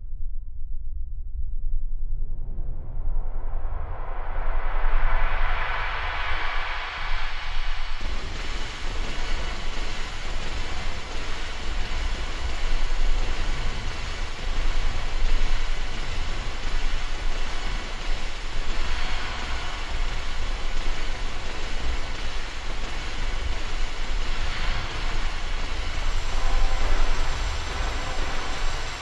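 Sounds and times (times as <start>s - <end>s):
deep low rumble: 0.0s - 29.0s
dense wash of noise: 2.2s - 29.0s.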